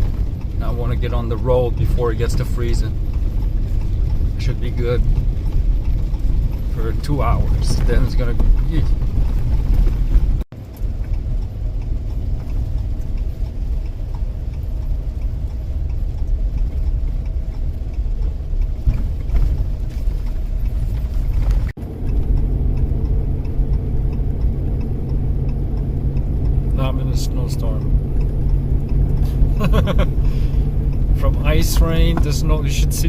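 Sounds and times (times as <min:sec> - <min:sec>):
vehicle driving rumble: 0:00.0 - 0:33.0.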